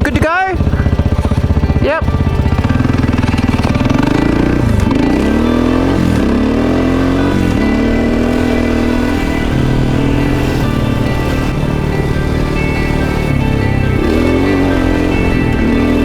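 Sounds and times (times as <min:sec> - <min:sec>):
dirt bike accelerating through gears: 0:00.0 - 0:16.0.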